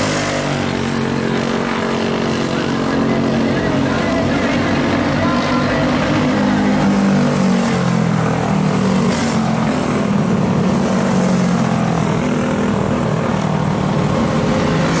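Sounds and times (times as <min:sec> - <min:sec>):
kart engines at high revs: 0:00.0 - 0:15.0.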